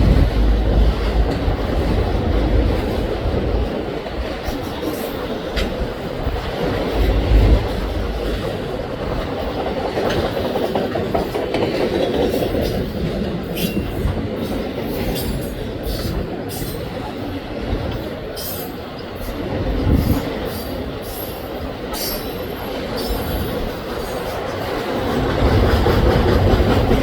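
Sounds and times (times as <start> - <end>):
steel wheels rumbling on rail: 0.0 - 27.0
wheels clicking over rail joints: 0.0 - 27.0.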